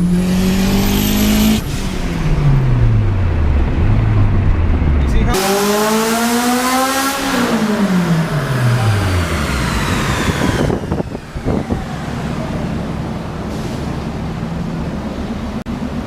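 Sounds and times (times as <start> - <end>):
car engine revving and idling: 0.0 - 16.0.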